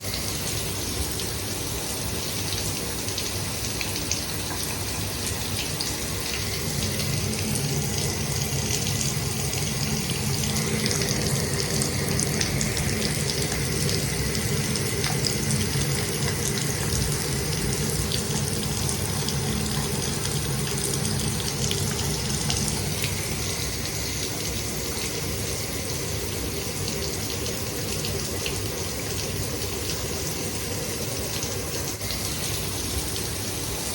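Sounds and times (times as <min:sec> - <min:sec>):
shower water spraying: 0:00.0 - 0:33.9.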